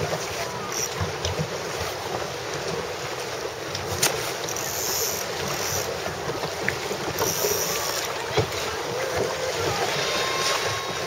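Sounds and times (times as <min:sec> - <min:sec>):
water washing: 0:00.0 - 0:11.0.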